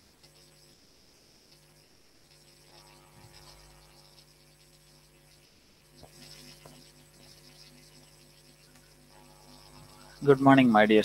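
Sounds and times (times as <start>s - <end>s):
faint electrical hum with hiss: 0.0s - 11.0s.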